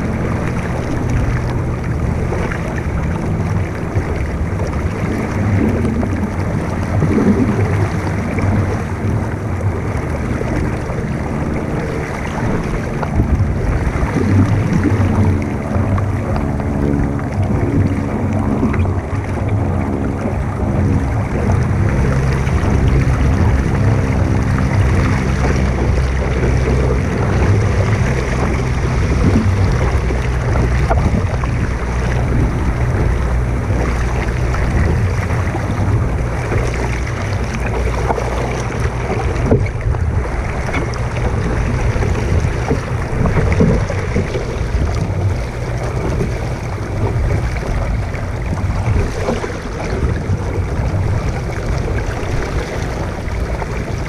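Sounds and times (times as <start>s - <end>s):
water rushing along a hull: 0.0s - 54.0s
wind buffeting microphone: 0.0s - 54.0s.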